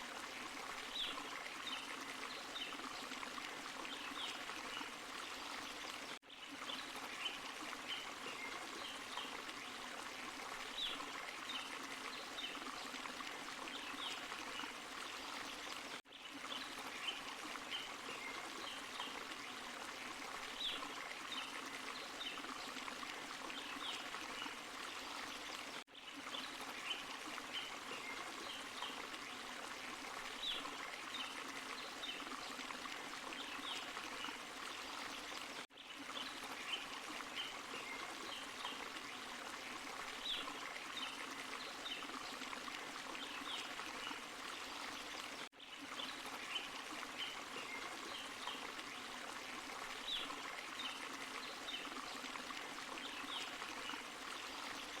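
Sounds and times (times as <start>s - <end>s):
water splashes and trickles: 0.0s - 55.0s
waterfall and stream running: 0.0s - 55.0s.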